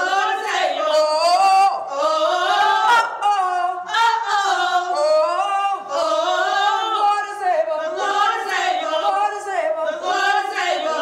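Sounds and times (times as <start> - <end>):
group singing a cappella: 0.0 - 11.0.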